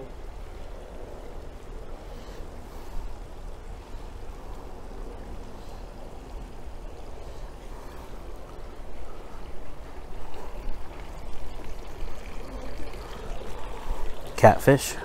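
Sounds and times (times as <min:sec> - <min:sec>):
water pouring into ponds: 0:00.0 - 0:15.0.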